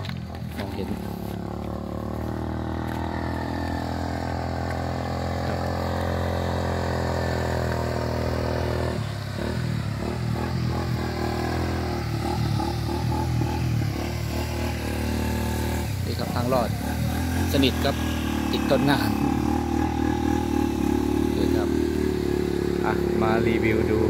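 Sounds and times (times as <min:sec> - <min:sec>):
engine running at low revs: 0:00.0 - 0:24.0.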